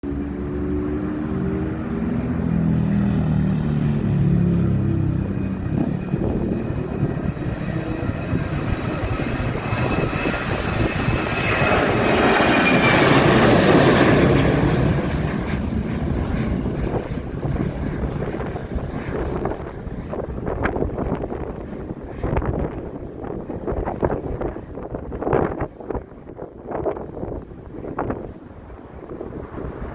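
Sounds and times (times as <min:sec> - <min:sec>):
jet engines at takeoff: 0:00.0 - 0:29.9.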